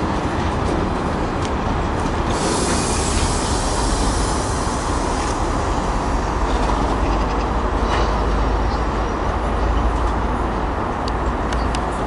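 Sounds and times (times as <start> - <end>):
train wagons rumbling past: 0.0 - 12.0.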